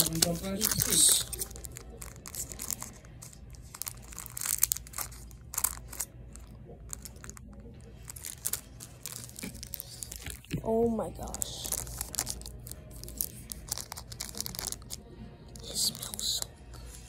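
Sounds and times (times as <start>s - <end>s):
wrapper crinkling: 0.0s - 17.0s.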